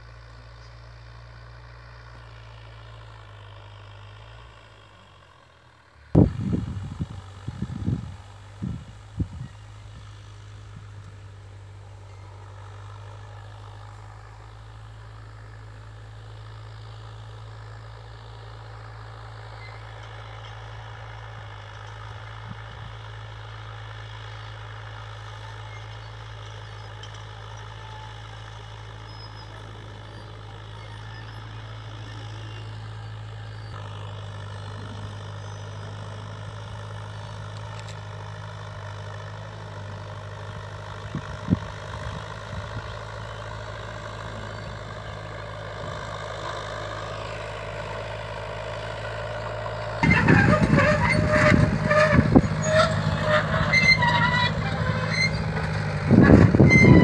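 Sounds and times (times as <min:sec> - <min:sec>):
distant tractor engine under load: 0:00.0 - 0:57.0.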